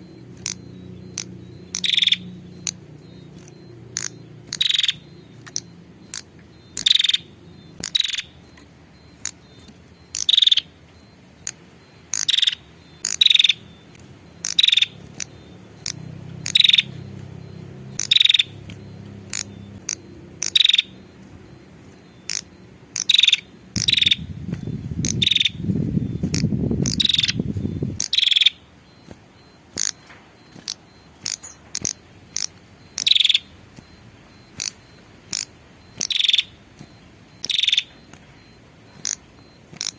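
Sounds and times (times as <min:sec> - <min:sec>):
bird giving sharp high calls: 0:00.0 - 0:10.8, 0:11.4 - 0:38.0, 0:38.9 - 0:39.9.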